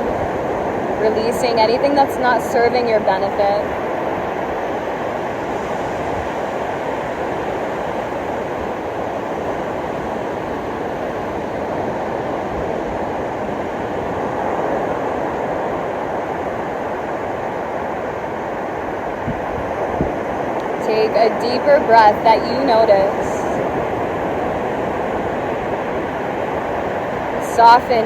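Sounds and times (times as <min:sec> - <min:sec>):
ocean waves breaking on a beach: 0:00.0 - 0:28.0.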